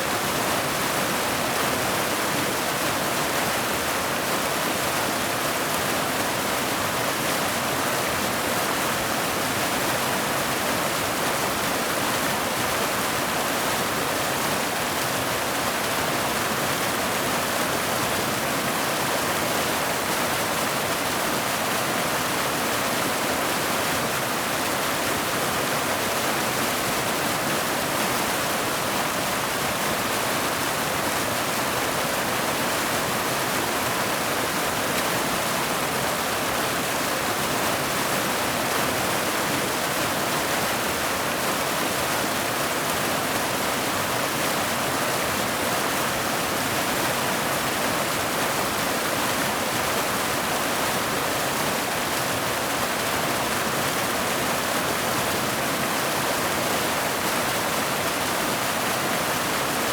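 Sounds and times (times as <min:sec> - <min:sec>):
waterfall rushing over boulders: 0:00.0 - 0:59.9.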